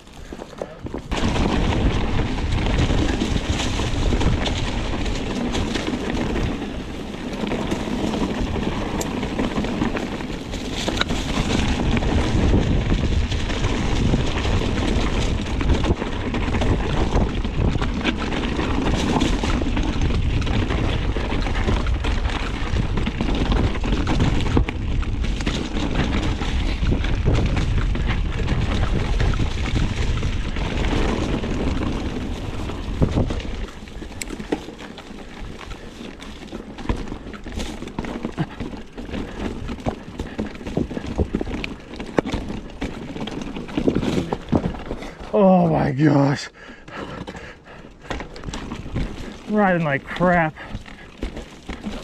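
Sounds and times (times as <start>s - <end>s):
wind buffeting microphone: 0.0s - 45.3s
bike rattling on rough trail: 0.0s - 52.0s.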